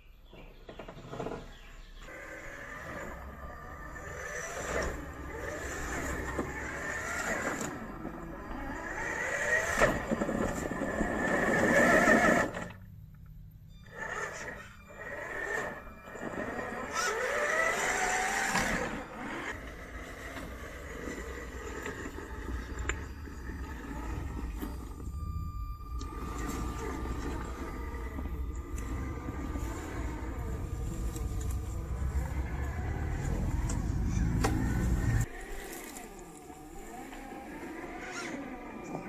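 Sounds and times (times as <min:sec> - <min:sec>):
toy truck electric motor whining: 0:01.0 - 0:12.9, 0:13.7 - 0:39.0.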